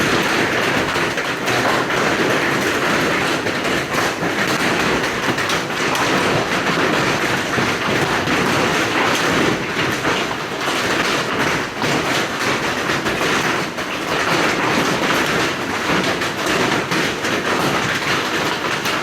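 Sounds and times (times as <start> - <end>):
hailstones clattering: 0.0 - 19.0.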